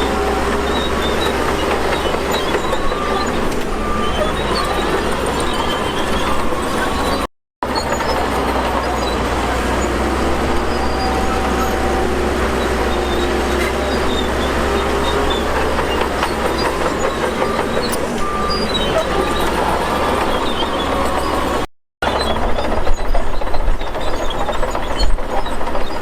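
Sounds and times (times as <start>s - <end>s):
crawler tracks clanking: 0.0s - 26.0s
diesel engine running under load: 0.0s - 26.0s.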